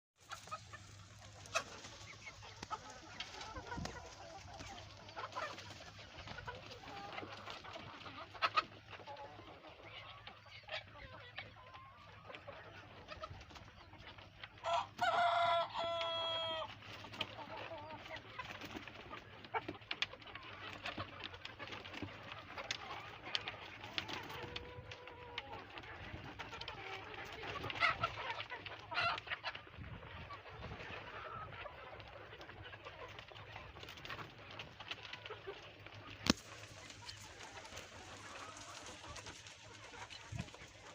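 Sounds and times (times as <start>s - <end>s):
chickens clucking: 0.2s - 40.9s.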